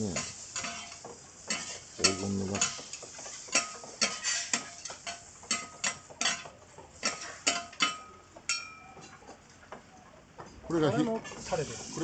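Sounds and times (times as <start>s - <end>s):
metal spatula scraping griddle: 0.0s - 8.7s, 10.9s - 12.0s.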